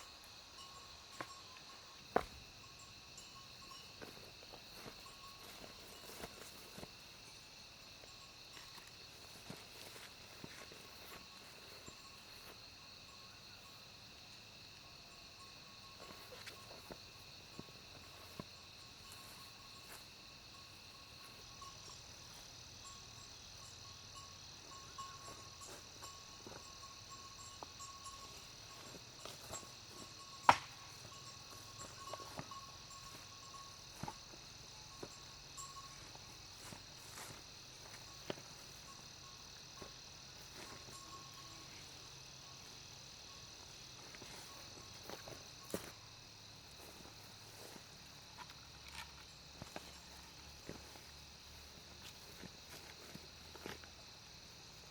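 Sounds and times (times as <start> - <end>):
insects chirping: 0.0 - 54.9.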